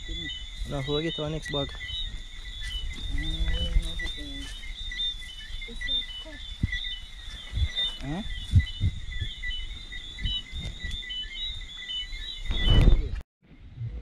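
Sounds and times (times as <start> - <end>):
footsteps through wet undergrowth: 0.4 - 11.9.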